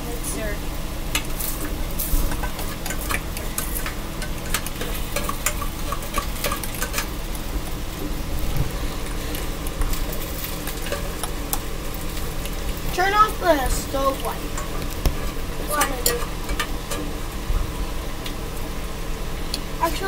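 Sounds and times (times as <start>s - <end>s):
food sizzling in pans: 0.0s - 20.0s.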